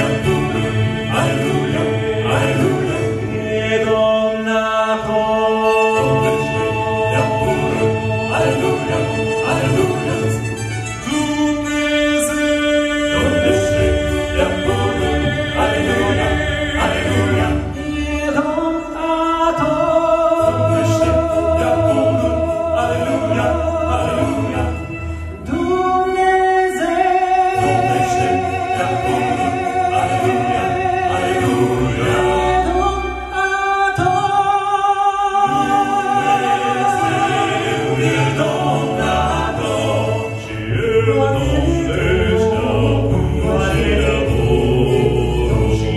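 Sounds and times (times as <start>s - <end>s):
male vocal quartet singing: 0.0s - 45.9s.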